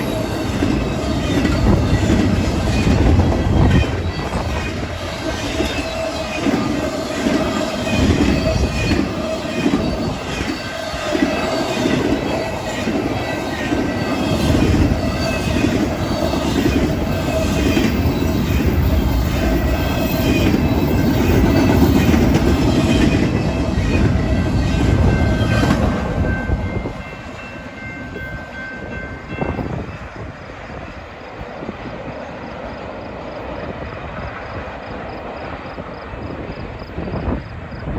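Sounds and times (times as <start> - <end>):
train wheels clickety-clack: 0.0 - 37.9.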